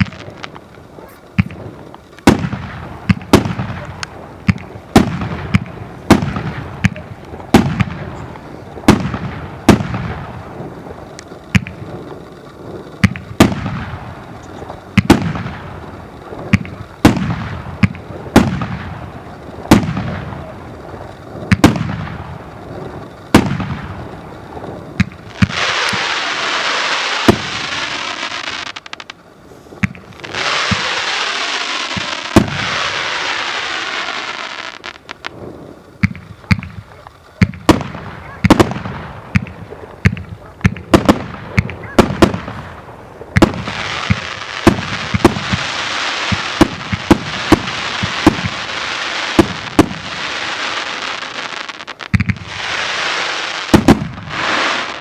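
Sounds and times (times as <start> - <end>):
continuous firework rush: 0.0 - 55.0
firework bangs: 0.0 - 55.0.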